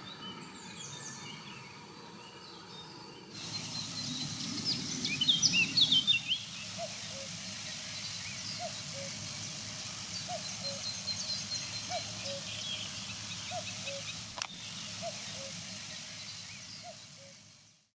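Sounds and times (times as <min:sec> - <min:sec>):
birds singing: 0:00.0 - 0:17.8
steady hiss: 0:03.3 - 0:17.9.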